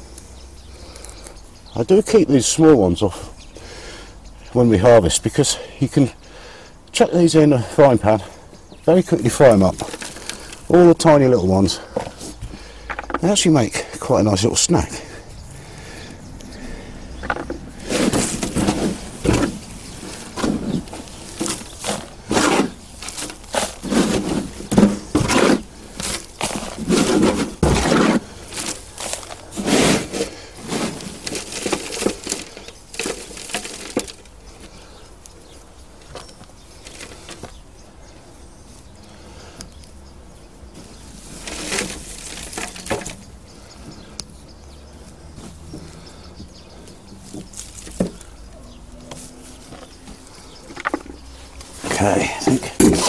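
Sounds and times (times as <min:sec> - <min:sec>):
hands rustling through compost: 0:07.2 - 0:53.0.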